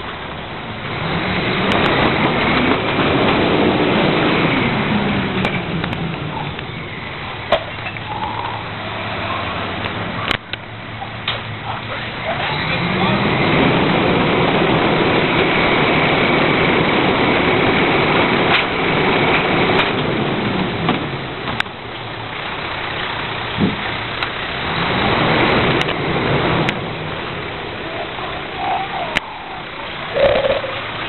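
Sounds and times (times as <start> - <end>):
garbage truck engine running: 0.0 - 31.0.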